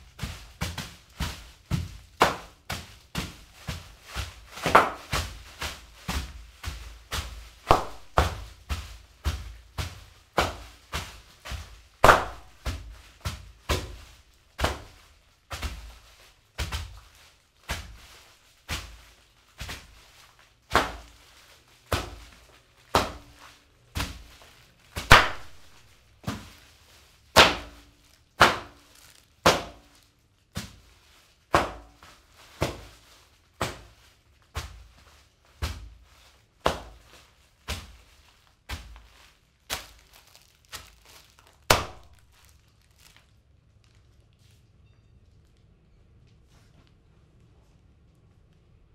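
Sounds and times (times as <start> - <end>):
cookies crunching underfoot: 0.0 - 47.1
wrappers crinkling: 0.0 - 48.6.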